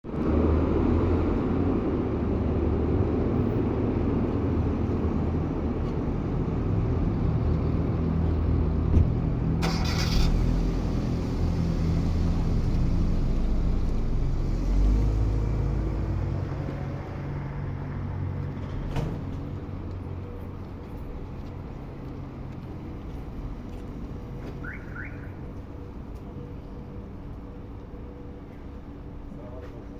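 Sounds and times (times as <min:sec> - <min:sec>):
vehicle engines rumbling: 0:00.0 - 0:29.9.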